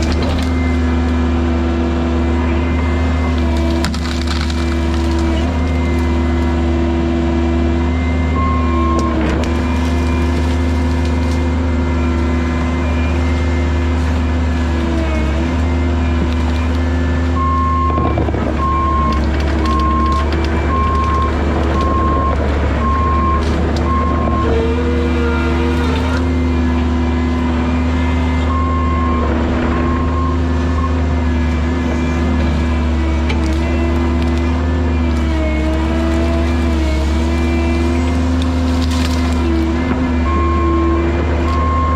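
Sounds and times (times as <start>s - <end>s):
diesel excavator engine running: 0.0s - 41.9s.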